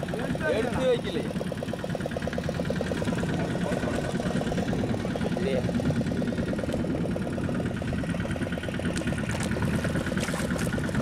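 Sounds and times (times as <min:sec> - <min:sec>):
boat engine idling: 0:00.0 - 0:11.0
water splashes: 0:00.0 - 0:11.0.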